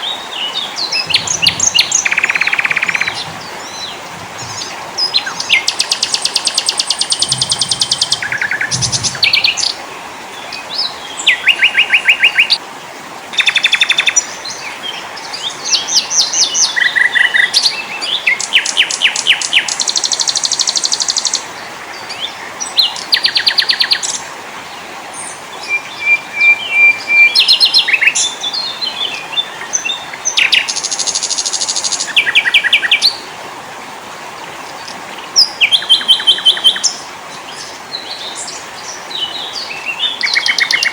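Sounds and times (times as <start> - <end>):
songbirds trilling and chirping: 0.0 - 12.6, 13.4 - 33.3, 34.0 - 40.9
background hiss: 0.0 - 40.9.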